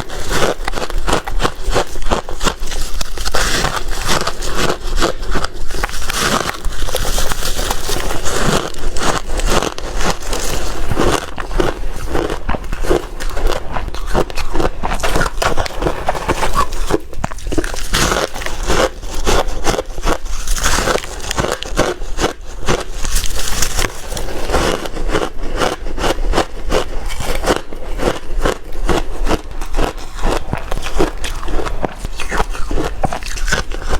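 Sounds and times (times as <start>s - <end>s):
person chewing ice: 0.0s - 33.9s.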